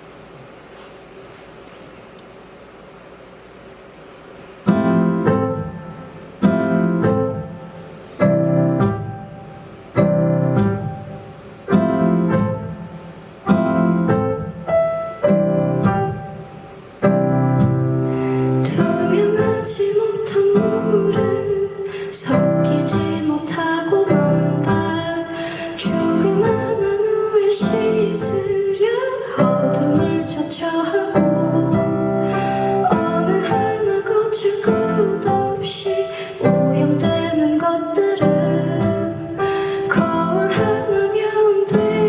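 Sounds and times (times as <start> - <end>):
piano chords: 4.6 - 42.0.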